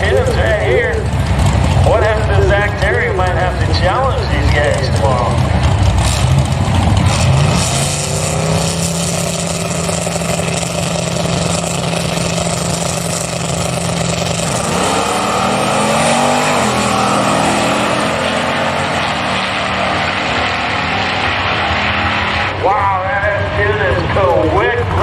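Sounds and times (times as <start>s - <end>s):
pickup trucks racing at full throttle: 0.0s - 25.0s.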